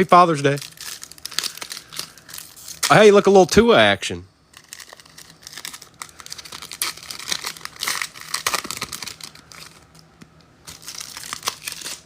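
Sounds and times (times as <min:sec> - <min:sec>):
foil wrapper crinkling and tearing: 0:00.0 - 0:03.6, 0:04.5 - 0:12.0.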